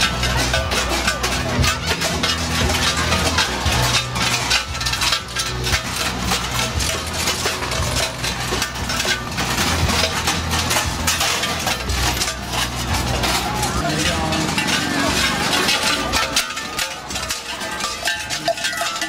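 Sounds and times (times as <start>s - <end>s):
large bells clanging and jangling: 0.0s - 19.0s.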